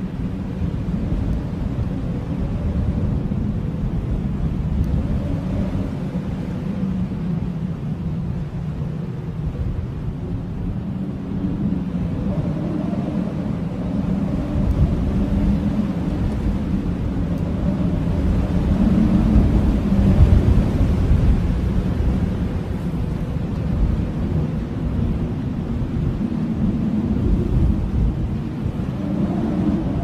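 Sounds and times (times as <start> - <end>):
blizzard wind howling: 0.0 - 30.0.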